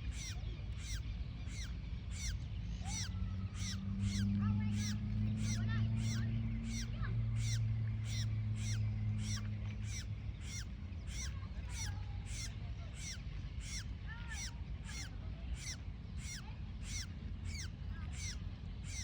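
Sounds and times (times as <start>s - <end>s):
bird calling: 0.0s - 19.0s
low hum: 0.0s - 19.0s.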